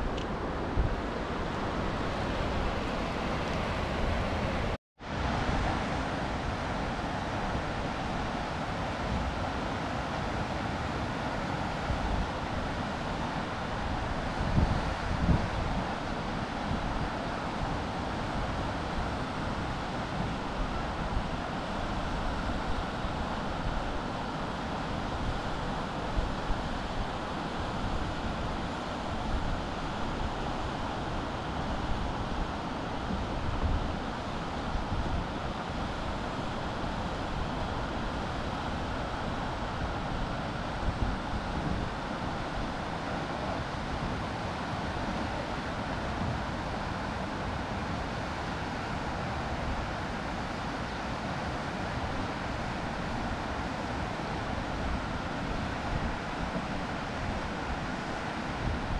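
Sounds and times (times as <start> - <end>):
white-water river rushing: 0.0 - 58.9.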